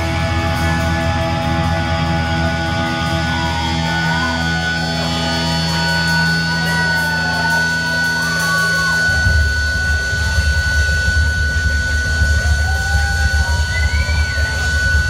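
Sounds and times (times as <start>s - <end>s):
live punk rock band: 0.0s - 15.0s.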